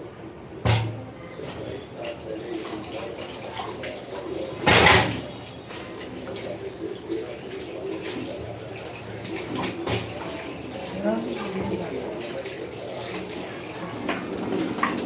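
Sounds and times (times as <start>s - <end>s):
water splash in sink: 0.6s - 15.0s
water running and trickling: 2.0s - 15.0s.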